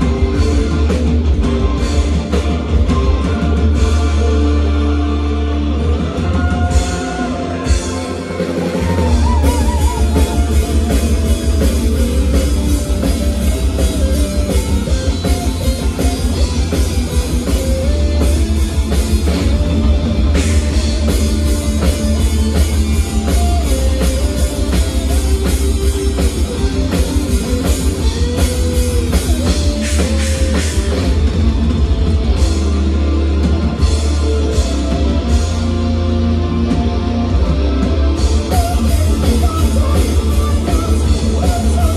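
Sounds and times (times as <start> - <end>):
distorted electric guitars: 0.0 - 41.9
fast dense drumming: 0.0 - 41.9
melodic lead line: 0.0 - 41.9
metal band playing: 0.0 - 41.9.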